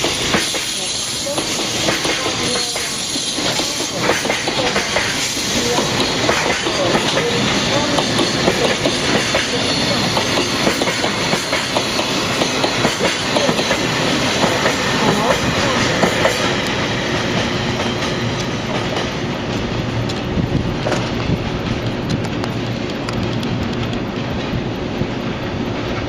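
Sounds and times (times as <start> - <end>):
freight train wheels clattering: 0.0 - 26.0.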